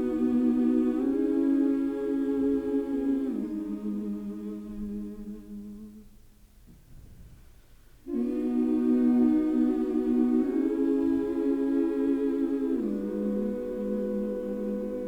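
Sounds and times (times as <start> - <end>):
choir-like wordless humming: 0.0 - 6.2, 8.0 - 15.0.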